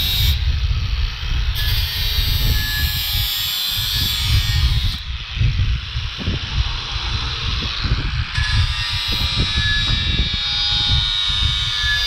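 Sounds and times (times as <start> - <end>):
angle grinder grinding metal: 0.0 - 12.0.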